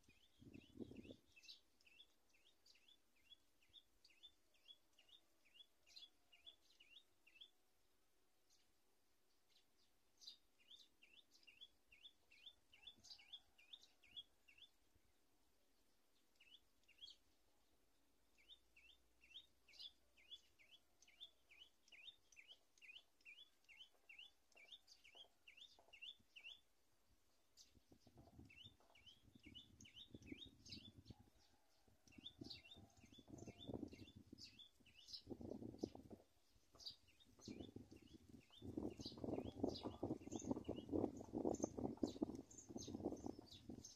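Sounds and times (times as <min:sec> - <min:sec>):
bird chirping: 0:00.0 - 0:07.7, 0:08.4 - 0:43.9.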